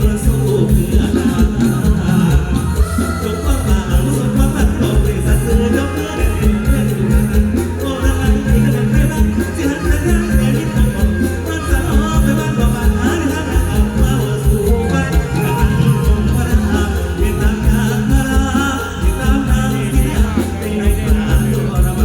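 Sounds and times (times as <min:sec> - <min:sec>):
live band music with bass drum: 0:00.0 - 0:22.0
person singing: 0:00.0 - 0:22.0.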